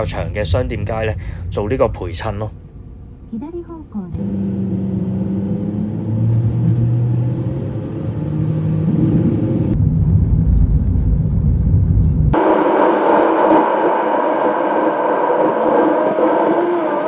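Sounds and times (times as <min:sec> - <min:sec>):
car engine hum: 0:02.7 - 0:17.0.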